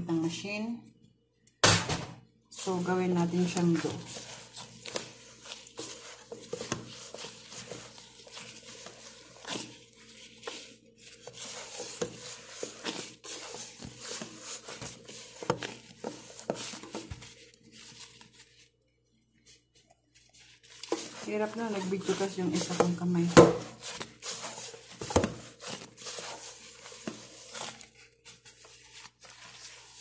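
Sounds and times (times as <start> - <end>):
dough squishing and slapping: 1.6 - 18.8, 19.4 - 30.0
hand scraping a metal bowl: 2.6 - 18.5, 20.2 - 30.0.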